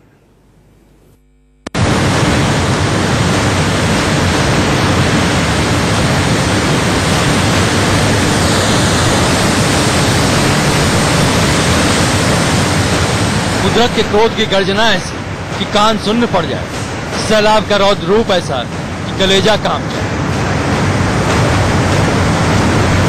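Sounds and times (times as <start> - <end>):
flood torrent roaring: 1.8 - 23.0.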